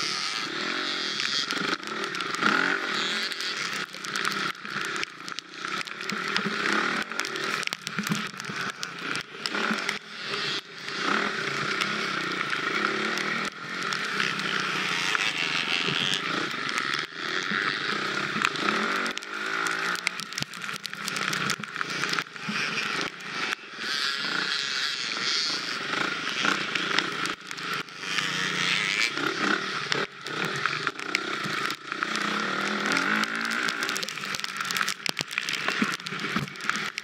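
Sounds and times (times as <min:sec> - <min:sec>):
dirt bike engine revving: 0:00.0 - 0:07.7, 0:08.4 - 0:37.0.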